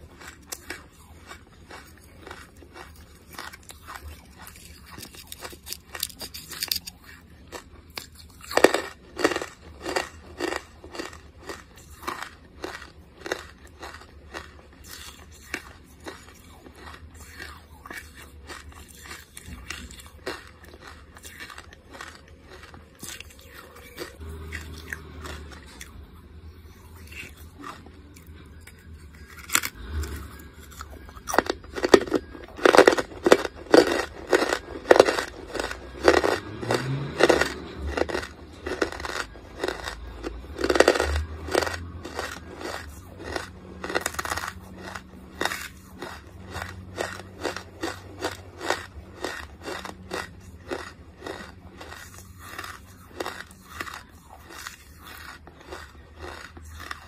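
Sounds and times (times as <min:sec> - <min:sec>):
charcoal being chewed and crunched: 0:00.0 - 0:57.0.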